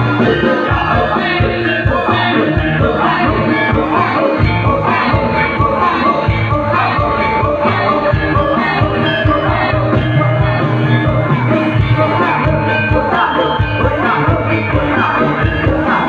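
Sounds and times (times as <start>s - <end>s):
person singing: 0.0s - 16.0s.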